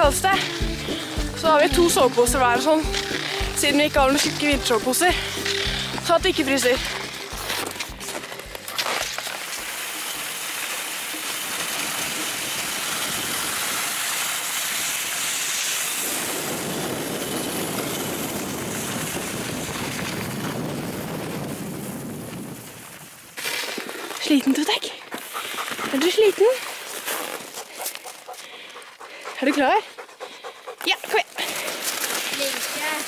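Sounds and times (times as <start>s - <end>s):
skis and sled sliding on snow: 0.0s - 28.8s, 30.9s - 33.0s.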